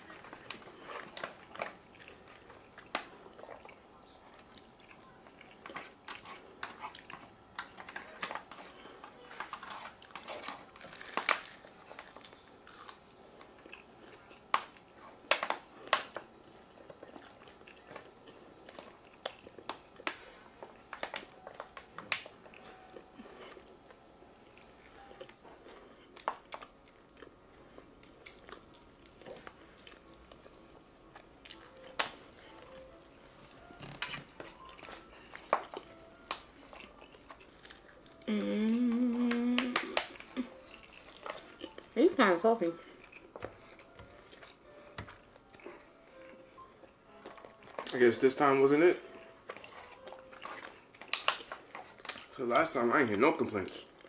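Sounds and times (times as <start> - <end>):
close-miked chewing: 0.0 - 52.4.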